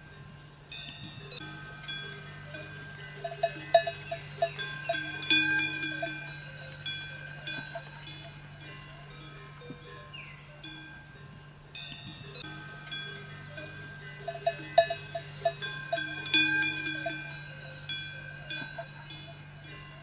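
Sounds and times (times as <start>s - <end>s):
small metal bells clanking: 0.0s - 20.0s
steady low hum: 0.0s - 20.0s.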